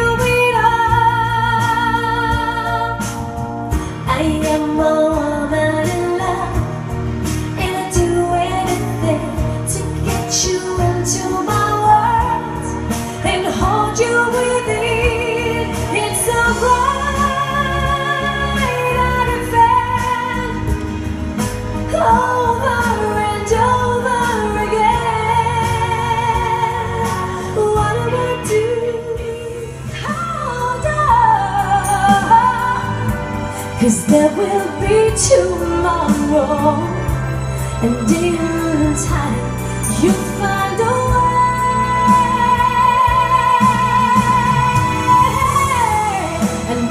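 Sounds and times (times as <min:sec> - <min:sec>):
pop backing music with beat: 0:00.0 - 0:46.9
woman singing into microphone: 0:00.0 - 0:46.9.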